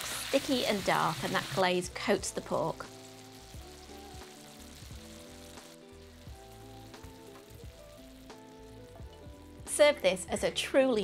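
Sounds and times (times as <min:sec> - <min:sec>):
gentle background music: 0:00.0 - 0:11.0
meat sizzling in a frying pan: 0:00.0 - 0:11.0.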